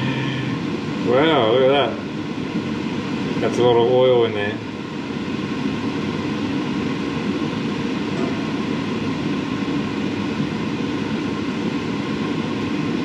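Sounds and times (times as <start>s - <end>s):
exhaust fan running: 0.0s - 13.0s.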